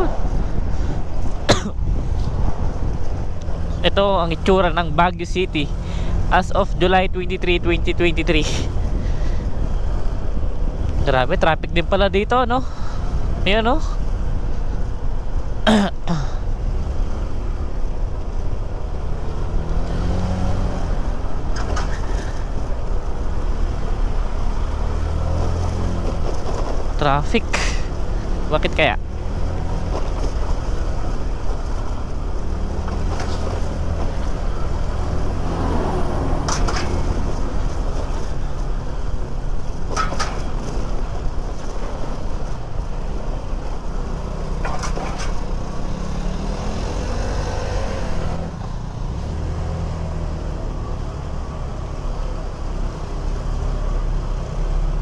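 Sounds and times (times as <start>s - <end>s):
traffic: 0.0s - 55.0s.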